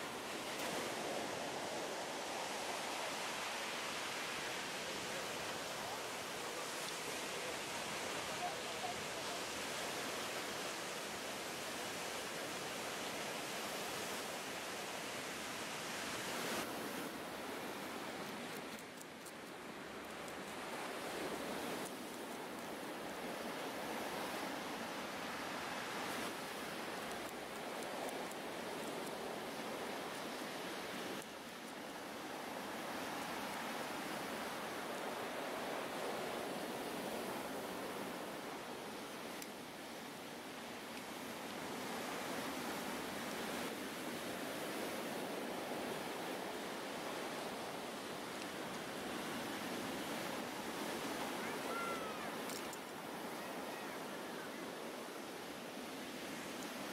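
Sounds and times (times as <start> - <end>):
sea surf on pebble beach: 0.0 - 56.9.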